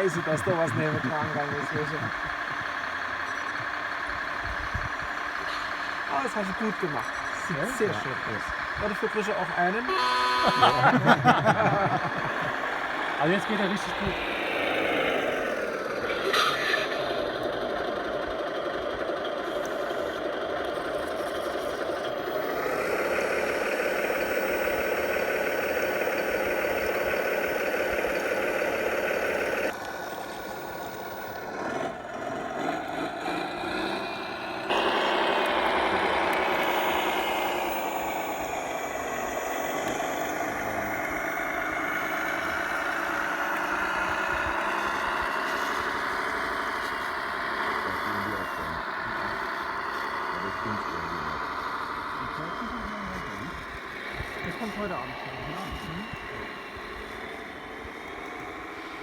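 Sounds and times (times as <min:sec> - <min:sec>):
hydraulic pump humming: 0:00.0 - 0:59.0.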